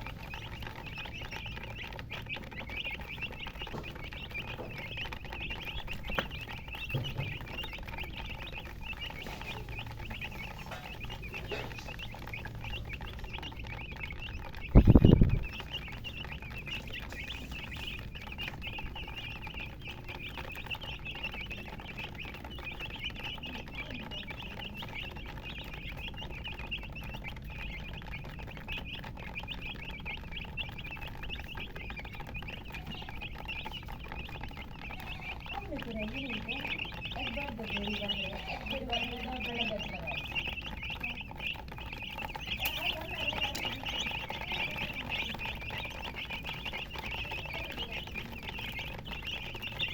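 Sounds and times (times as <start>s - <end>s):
baby chicks peeping: 0.0s - 49.9s.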